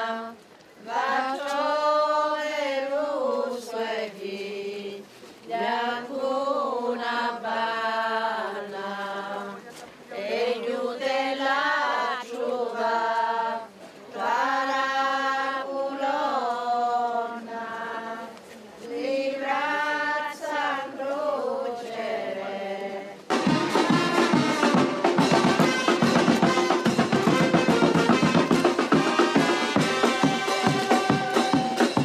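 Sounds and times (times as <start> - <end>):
voices singing slow chant: 0.0 - 32.0.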